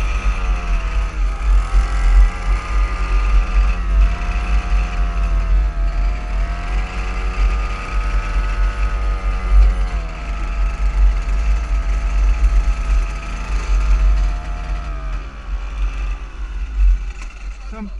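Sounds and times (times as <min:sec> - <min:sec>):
small petrol engine revving: 0:00.0 - 0:17.9
wind rumble on microphone: 0:00.0 - 0:17.9.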